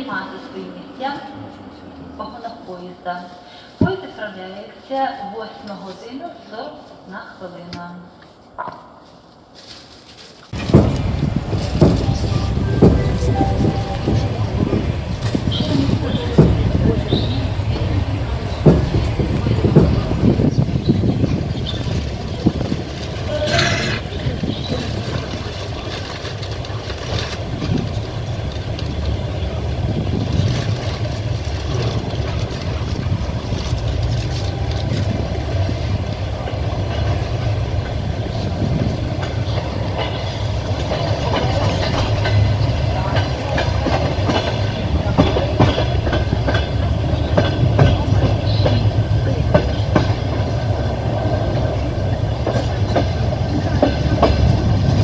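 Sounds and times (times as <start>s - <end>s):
train wheels clacking over rails: 10.4s - 55.0s.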